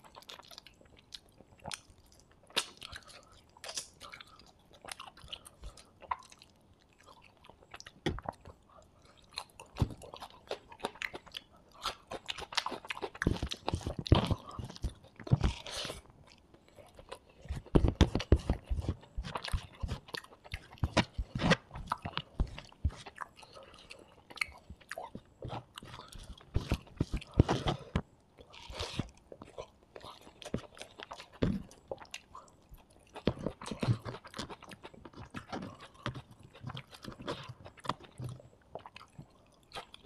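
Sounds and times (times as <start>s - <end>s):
person chewing food: 0.0s - 40.0s.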